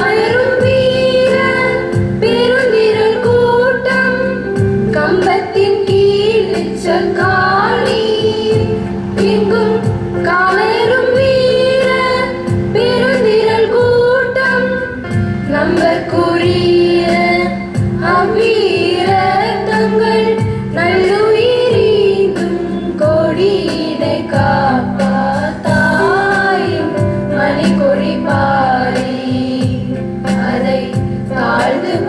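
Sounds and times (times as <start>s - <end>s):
instrumental accompaniment with beat: 0.0s - 32.0s
woman singing: 0.0s - 32.0s.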